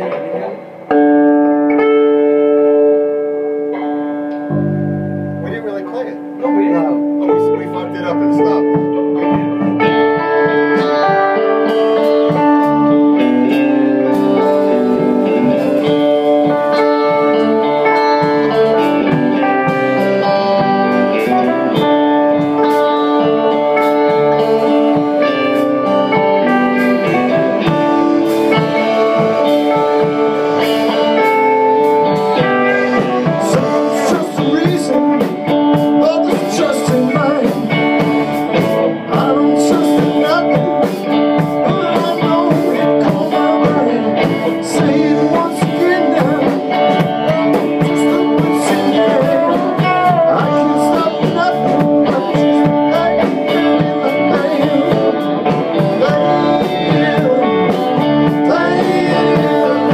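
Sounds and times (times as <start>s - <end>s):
person singing: 0.0s - 1.7s, 8.6s - 59.9s
band playing blues music: 0.0s - 59.9s.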